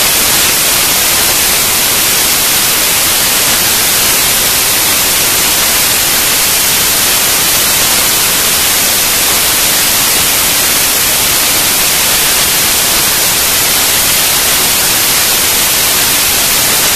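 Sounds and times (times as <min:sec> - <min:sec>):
static hiss: 0:00.0 - 0:16.9.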